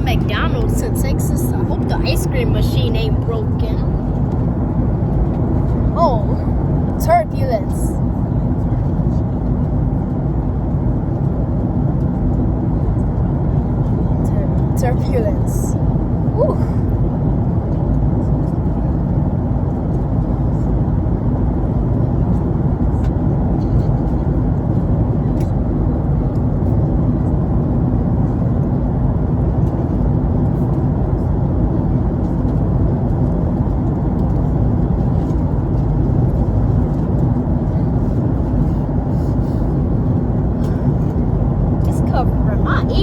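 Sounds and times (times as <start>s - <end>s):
jet airliner cabin roar: 0.0s - 43.0s.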